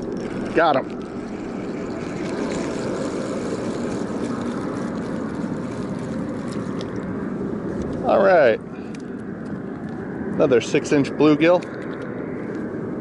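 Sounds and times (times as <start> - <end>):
distant industrial plant drone: 0.0 - 13.0.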